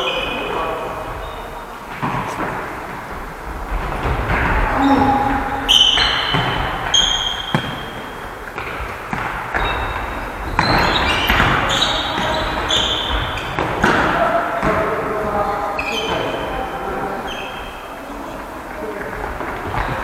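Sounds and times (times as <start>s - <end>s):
shoes squeaking on floor: 0.0s - 20.0s.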